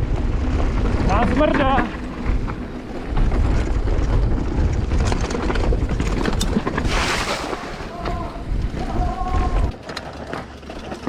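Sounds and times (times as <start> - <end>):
bike rattles and knocks: 0.0 - 11.0
tyres rumbling on trail: 0.0 - 11.0.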